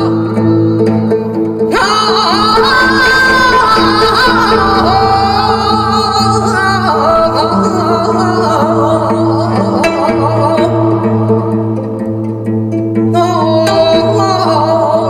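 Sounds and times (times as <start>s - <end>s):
instrumental accompaniment: 0.0s - 15.0s
person singing long wavering notes: 0.0s - 15.0s.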